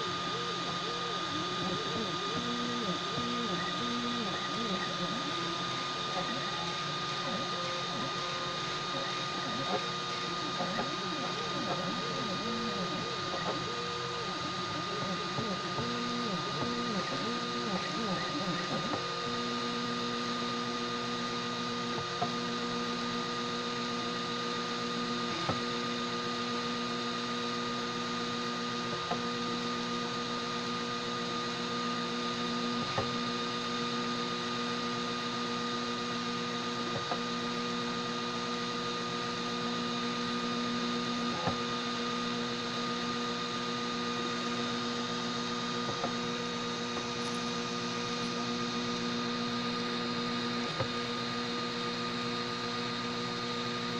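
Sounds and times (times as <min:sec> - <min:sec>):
printer motor hum and whine: 0:00.0 - 0:53.9.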